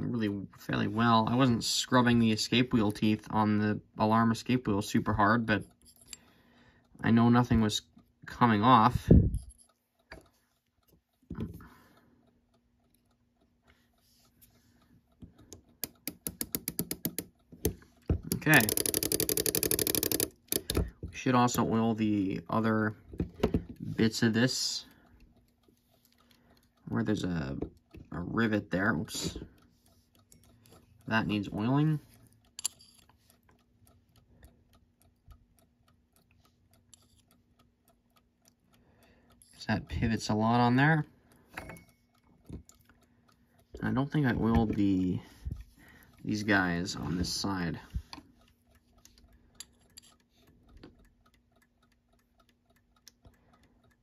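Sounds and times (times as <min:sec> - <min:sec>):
alarm clock escapement clicking: 0:00.0 - 0:54.0.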